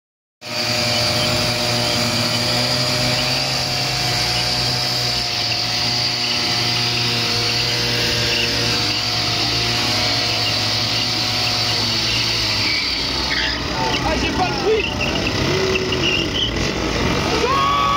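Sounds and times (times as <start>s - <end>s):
moped engine at high revs: 0.4s - 17.9s.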